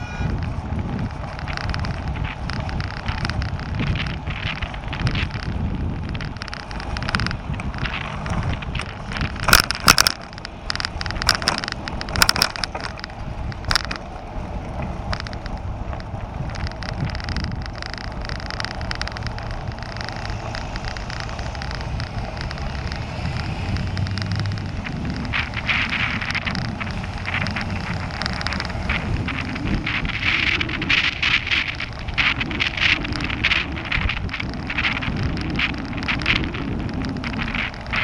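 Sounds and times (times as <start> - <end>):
bicycle tyre noise: 0.0 - 38.0
bike rattling over paving: 0.0 - 38.0
wind rumble on microphone: 0.0 - 38.0.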